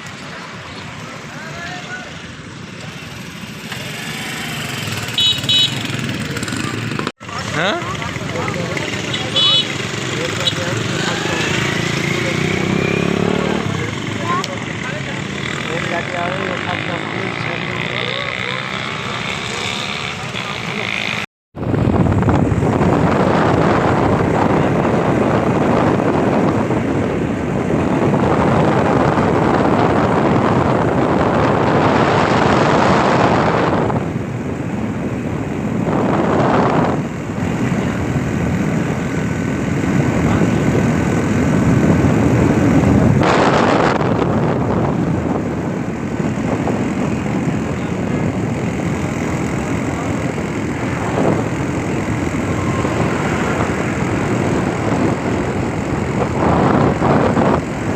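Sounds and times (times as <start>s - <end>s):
road rumble: 0.0s - 57.9s
vehicle engine: 0.0s - 57.9s.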